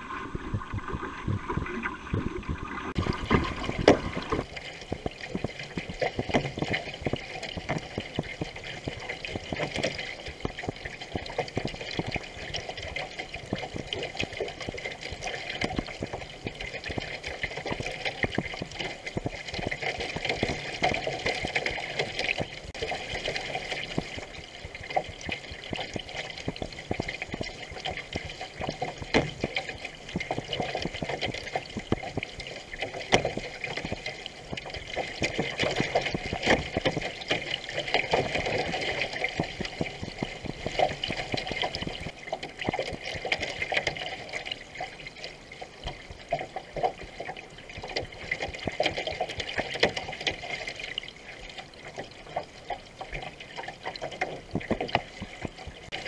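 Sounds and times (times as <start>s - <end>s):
water rushing along canoe hull: 0.0s - 56.0s.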